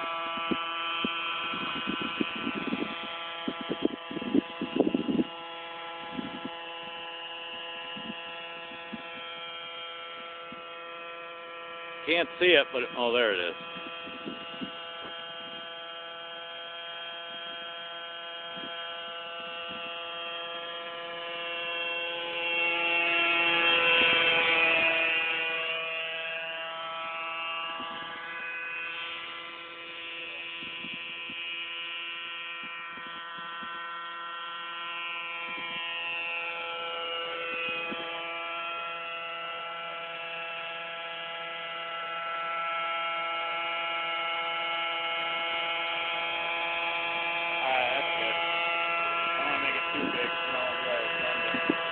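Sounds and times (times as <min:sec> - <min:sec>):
model helicopter whining: 0:00.0 - 0:51.9.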